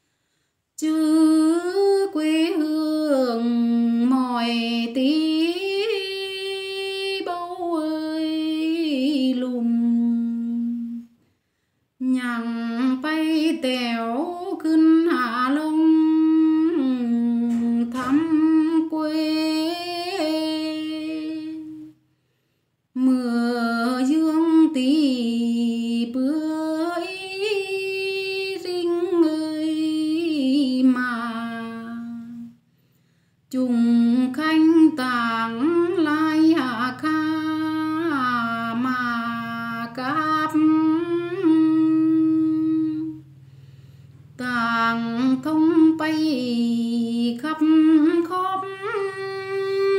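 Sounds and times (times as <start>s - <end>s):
woman singing folk song: 0.8s - 11.1s, 12.0s - 22.0s, 23.0s - 32.6s, 33.5s - 43.4s, 44.2s - 49.9s.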